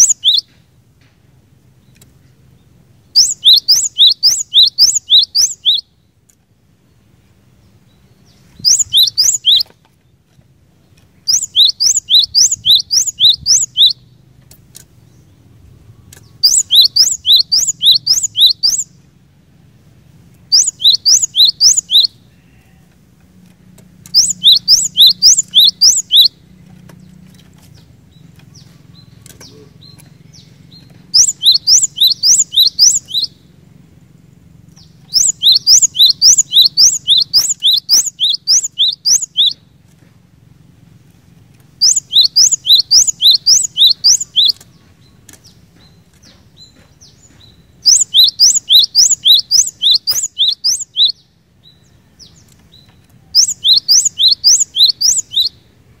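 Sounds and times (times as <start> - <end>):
bird singing sharp rising notes: 0.0 - 0.5, 1.9 - 6.0, 7.6 - 9.8, 10.9 - 19.1, 20.2 - 22.3, 23.8 - 39.7, 41.3 - 55.8.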